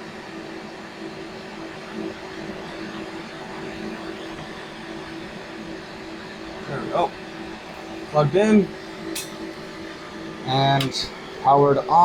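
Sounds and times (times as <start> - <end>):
computer cooling fans whirring: 0.0 - 12.0
constant hum tone: 0.0 - 12.0.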